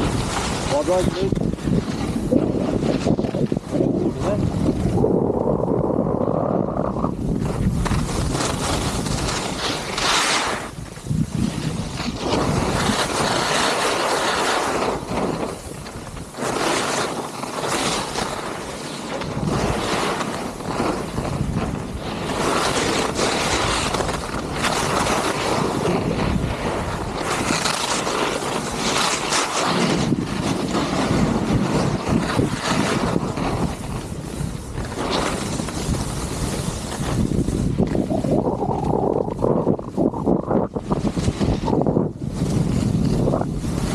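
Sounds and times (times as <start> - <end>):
skis scraping on snow: 0.0 - 43.9
wind rushing over microphone: 0.0 - 43.9.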